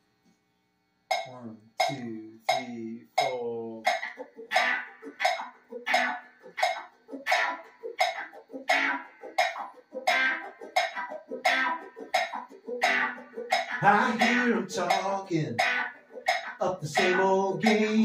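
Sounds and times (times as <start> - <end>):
rhythmic guitar strumming: 1.1 - 18.0
ringing guitar notes: 1.1 - 18.0.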